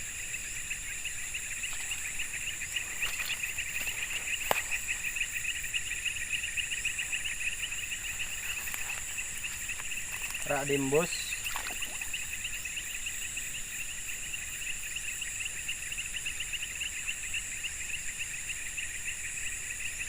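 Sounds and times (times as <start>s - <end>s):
crickets and cicadas chirring: 0.0s - 20.0s
high-pitched insect whines: 0.0s - 20.0s.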